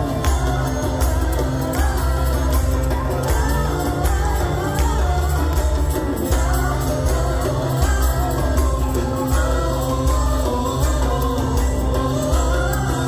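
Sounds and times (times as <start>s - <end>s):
electric guitars: 0.0s - 13.0s
person singing: 0.0s - 13.0s
steady bass: 0.0s - 13.0s.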